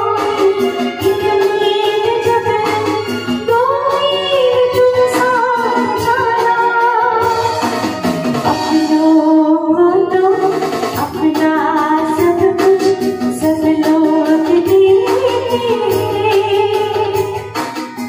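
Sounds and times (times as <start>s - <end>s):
woman singing into microphone: 0.0s - 17.6s
instrumental accompaniment: 0.0s - 18.0s.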